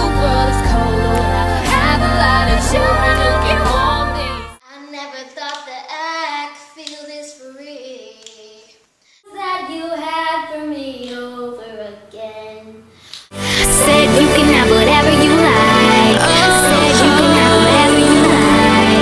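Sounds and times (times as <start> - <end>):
girl singing unaccompanied: 1.6 - 12.9, 13.6 - 19.0.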